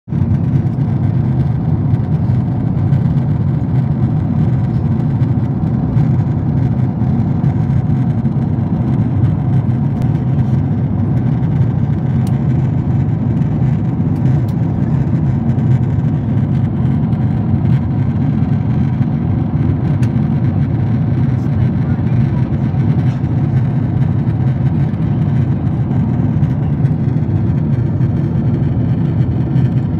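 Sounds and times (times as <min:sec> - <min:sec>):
airliner cabin rumble: 0:00.1 - 0:29.9.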